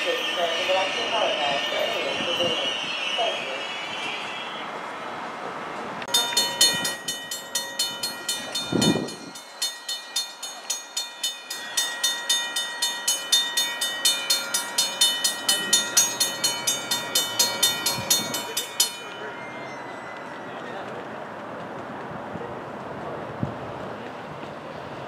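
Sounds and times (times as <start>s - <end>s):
railroad crossing bell ringing: 0.0s - 4.8s, 6.0s - 21.6s.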